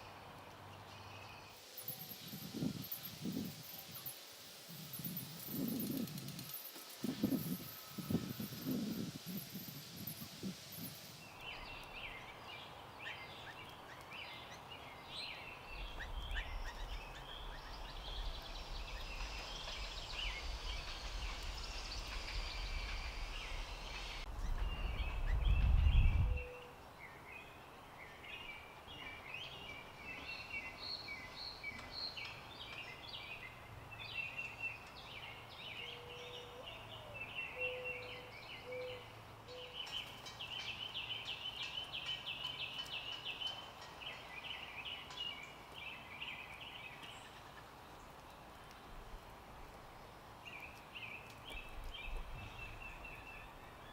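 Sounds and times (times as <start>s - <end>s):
small birds chirping: 0.7s - 53.9s.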